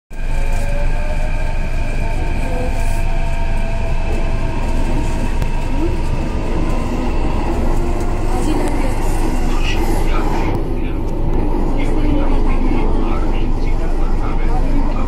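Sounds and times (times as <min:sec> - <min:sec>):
train wheels rumbling on track: 0:00.1 - 0:15.0.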